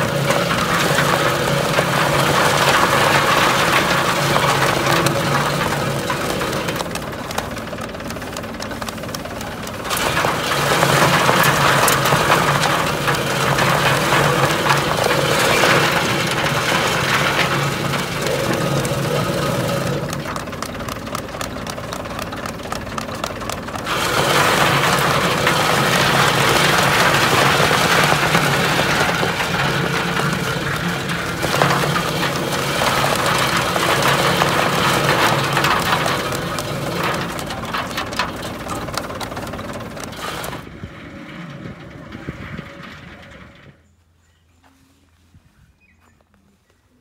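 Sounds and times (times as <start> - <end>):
machine rattling: 0.0 - 43.8
tractor engine running: 0.0 - 44.0.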